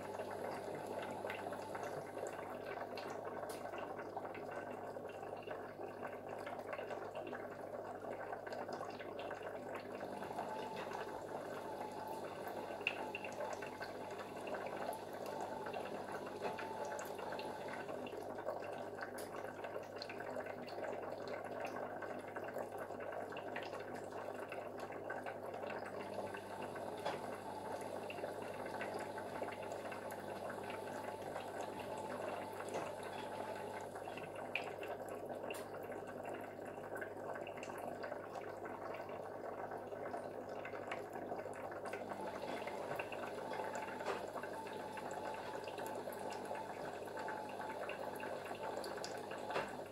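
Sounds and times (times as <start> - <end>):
aquarium water trickling: 0.0 - 49.9.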